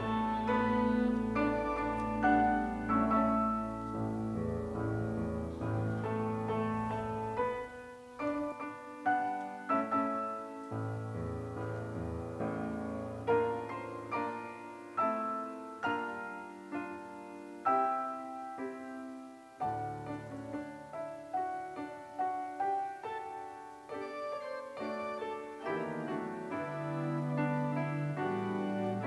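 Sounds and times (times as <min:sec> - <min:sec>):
slow grand piano music: 0:00.0 - 0:29.0.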